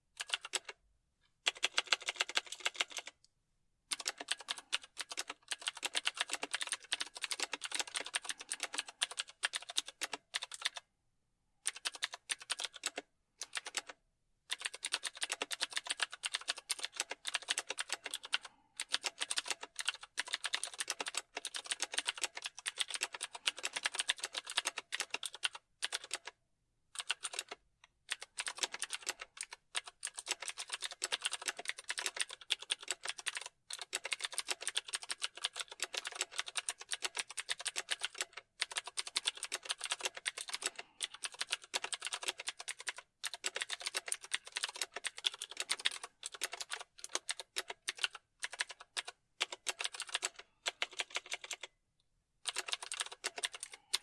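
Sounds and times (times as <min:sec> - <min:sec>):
computer keyboard typing: 0:00.2 - 0:00.8, 0:01.4 - 0:03.3, 0:03.9 - 0:10.9, 0:11.6 - 0:26.4, 0:27.0 - 0:51.7, 0:52.4 - 0:54.0.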